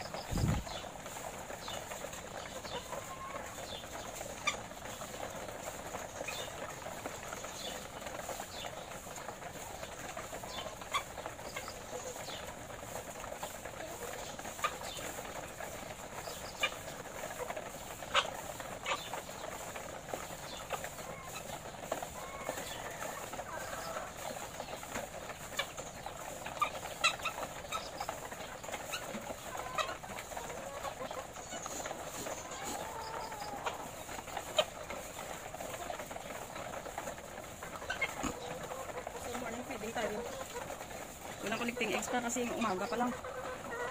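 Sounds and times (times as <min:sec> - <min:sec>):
hens clucking: 0:00.0 - 0:43.9.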